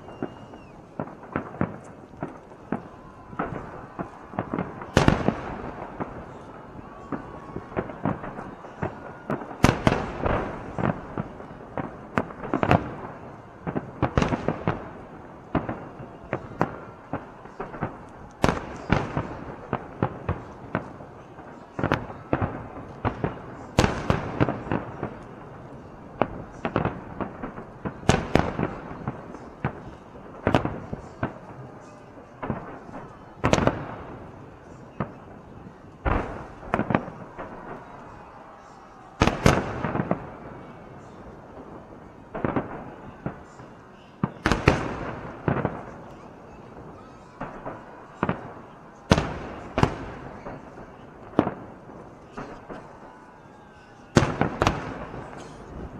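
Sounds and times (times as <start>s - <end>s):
fireworks bangs: 0.0s - 55.9s
fireworks crackles and pops: 0.0s - 55.9s.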